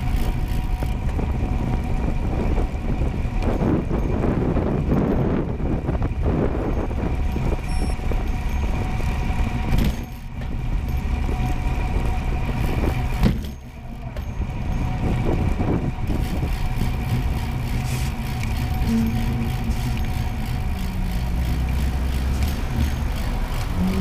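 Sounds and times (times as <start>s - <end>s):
tyres rumbling on asphalt: 0.0s - 24.0s
wind buffeting microphone: 0.0s - 24.0s.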